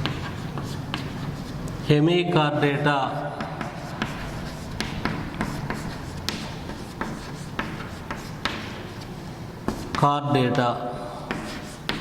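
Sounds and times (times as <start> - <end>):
chalk tapping and scraping: 0.0 - 1.9, 3.0 - 10.1, 11.2 - 12.0.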